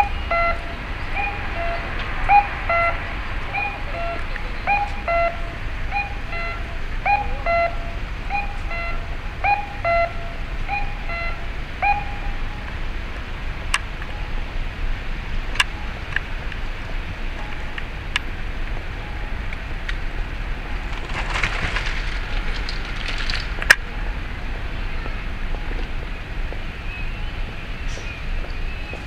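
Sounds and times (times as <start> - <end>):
low traffic rumble: 0.0 - 29.0.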